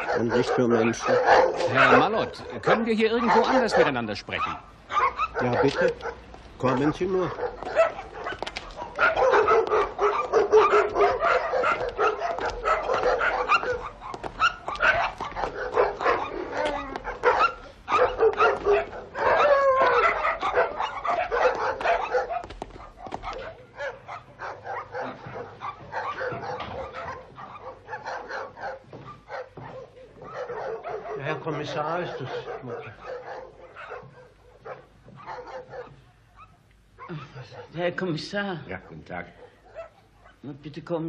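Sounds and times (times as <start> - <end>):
dogs barking: 0.0 - 40.5.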